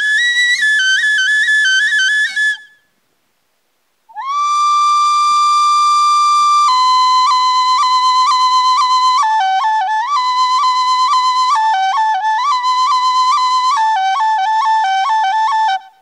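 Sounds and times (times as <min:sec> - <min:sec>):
solo high-pitched wind instrument: 0:00.0 - 0:02.9, 0:04.1 - 0:16.0.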